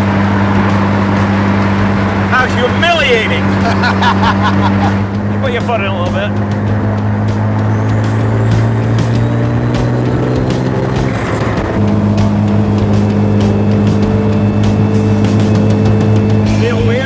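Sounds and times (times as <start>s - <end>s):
car engine pulling: 0.0s - 17.0s.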